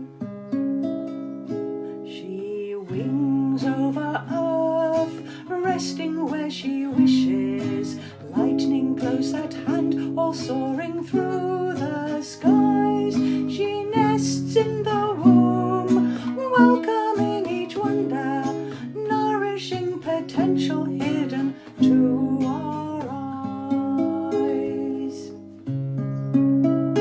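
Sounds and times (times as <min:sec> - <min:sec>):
acoustic guitar hymn accompaniment: 0:00.0 - 0:27.0
woman singing: 0:02.0 - 0:25.6.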